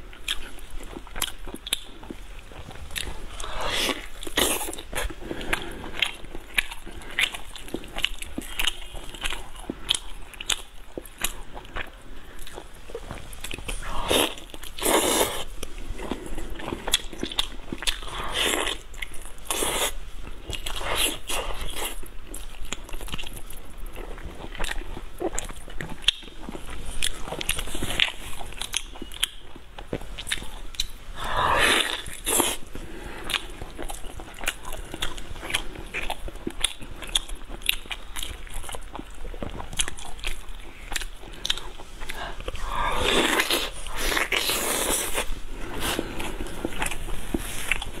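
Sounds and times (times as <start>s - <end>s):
wet chewing and smacking: 0.0s - 31.0s, 31.8s - 48.0s.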